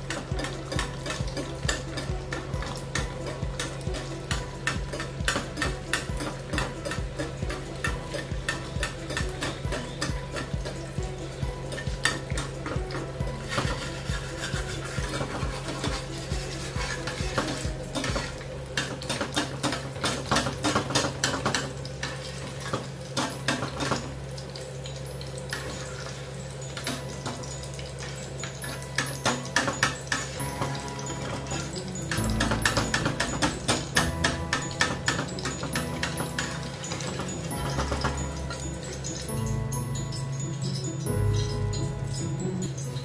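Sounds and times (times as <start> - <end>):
pork and egg frying in pans: 0.0 - 43.0.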